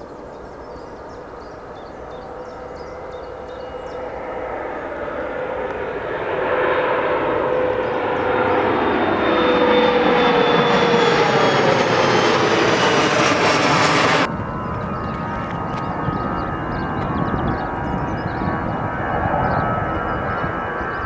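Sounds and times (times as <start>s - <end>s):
airliner engines passing: 0.0s - 21.0s.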